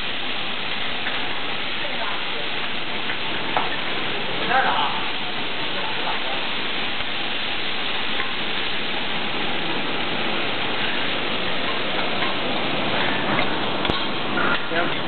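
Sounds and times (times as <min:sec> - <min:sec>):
vegetables sizzling on griddle: 0:00.0 - 0:15.0.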